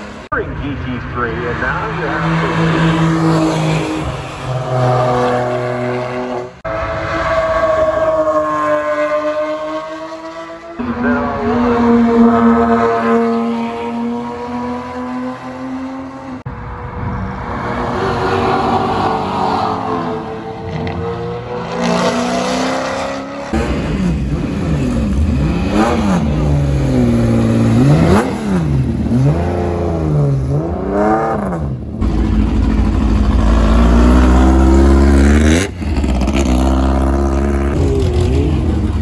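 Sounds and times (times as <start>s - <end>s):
race car engine revving: 0.0s - 39.0s
race car engines rumbling: 0.0s - 39.0s
race cars passing by: 0.0s - 39.0s.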